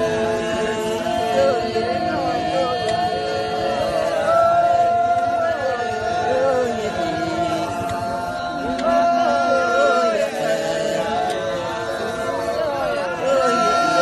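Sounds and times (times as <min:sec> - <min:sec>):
men chanting together: 0:00.0 - 0:14.0
voice holding a long note: 0:00.0 - 0:14.0.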